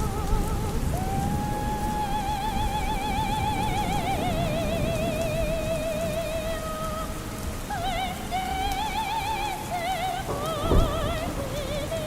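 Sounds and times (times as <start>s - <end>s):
low noisy background: 0.0s - 12.0s
operatic soprano singing: 0.0s - 12.0s.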